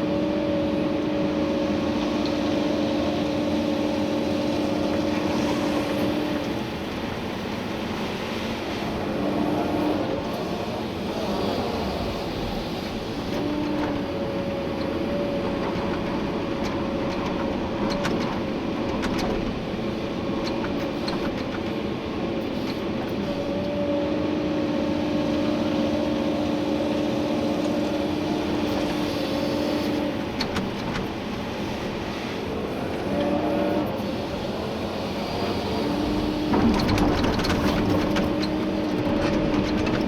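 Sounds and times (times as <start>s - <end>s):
excavator engine and hydraulics: 0.0s - 40.0s.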